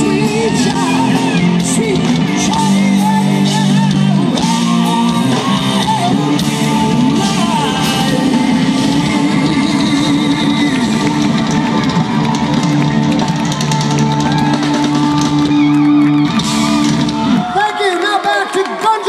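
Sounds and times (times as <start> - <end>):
electric guitar: 0.0 - 17.6
drum kit: 0.0 - 17.7.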